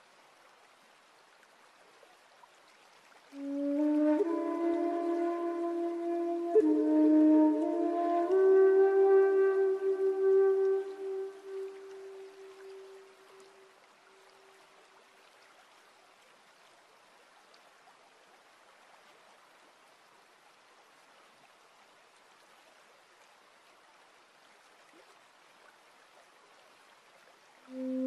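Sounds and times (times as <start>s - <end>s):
water trickling over pebbles: 0.0s - 28.0s.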